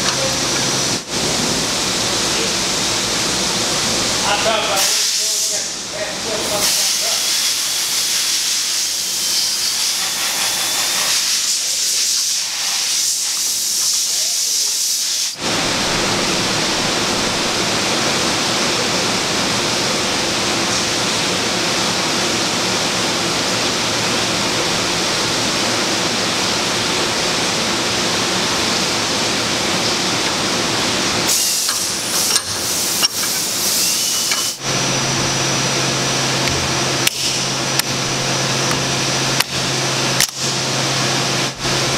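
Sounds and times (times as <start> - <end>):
loud hissing noise: 0.0 - 41.9.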